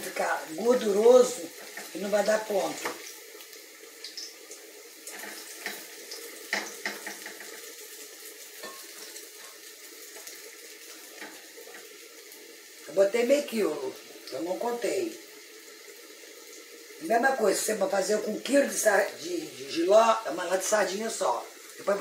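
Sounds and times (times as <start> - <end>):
fritters sizzling in oil: 0.0 - 22.0.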